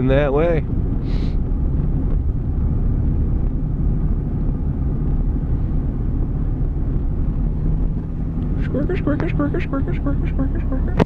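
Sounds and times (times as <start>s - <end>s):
engine and road noise in cab: 0.0s - 11.0s.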